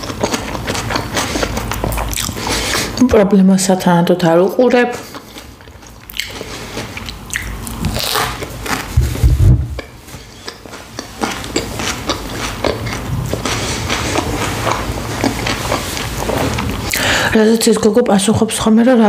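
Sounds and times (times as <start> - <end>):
crunchy chewing of sandwich: 0.0 - 3.0, 5.0 - 17.2.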